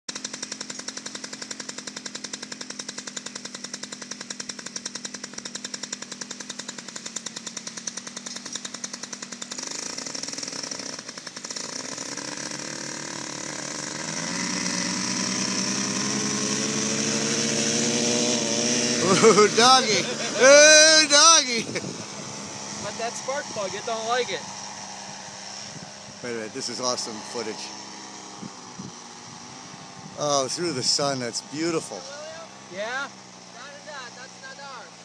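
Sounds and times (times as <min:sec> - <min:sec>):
two-stroke engine revving: 0:00.1 - 0:35.0.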